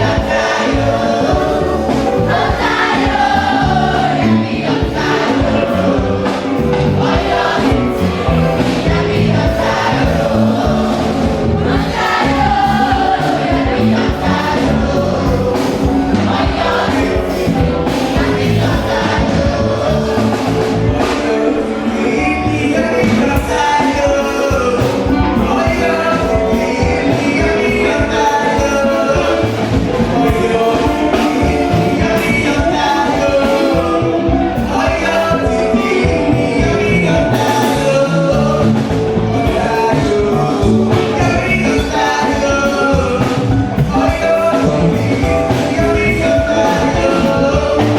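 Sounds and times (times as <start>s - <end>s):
band with steady drums: 0.0s - 47.9s
choir singing gospel: 0.0s - 47.9s.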